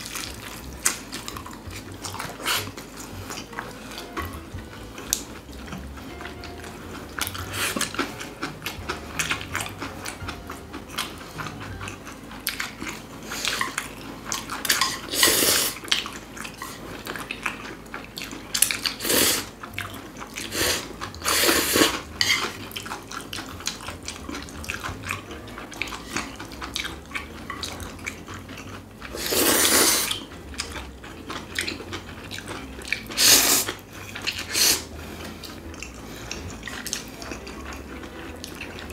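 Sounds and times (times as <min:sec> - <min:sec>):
chewing: 0:00.0 - 0:38.9
noodles being slurped: 0:00.0 - 0:38.9.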